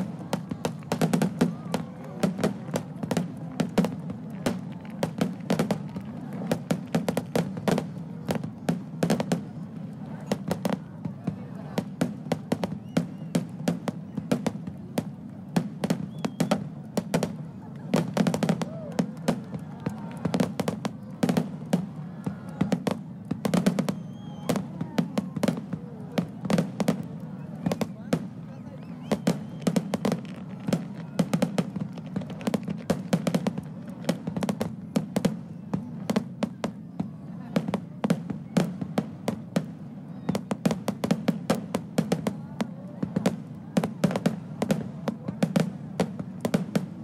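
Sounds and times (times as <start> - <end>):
fireworks sharp bangs: 0.0 - 47.0.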